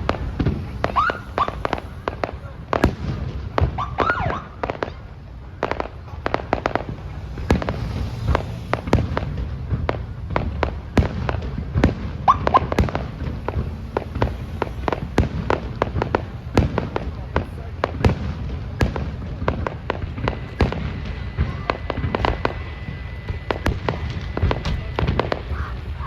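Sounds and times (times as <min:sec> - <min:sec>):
fireworks bangs and crackling: 0:00.0 - 0:26.0
low rumble: 0:00.0 - 0:26.0.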